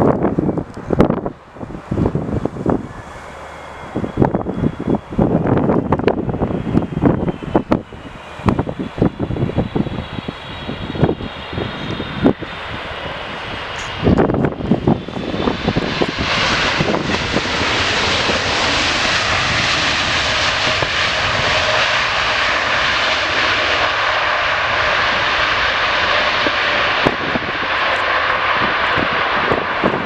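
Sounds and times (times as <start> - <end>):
jet engines roaring: 0.0 - 30.0
wind buffeting microphone: 0.0 - 30.0.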